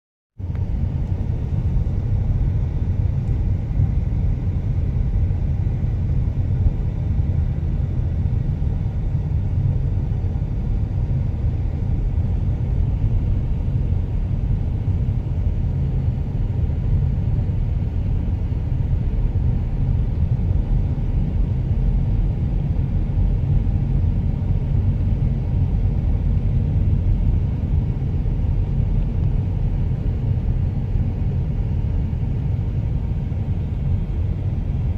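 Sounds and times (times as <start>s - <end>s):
car road and engine rumble: 0.4s - 34.9s.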